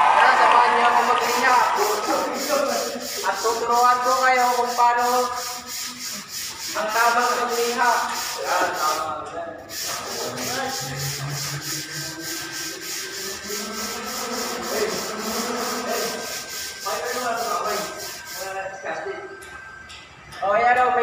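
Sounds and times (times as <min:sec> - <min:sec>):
sandpaper rubbing on wall: 0:00.9 - 0:18.6.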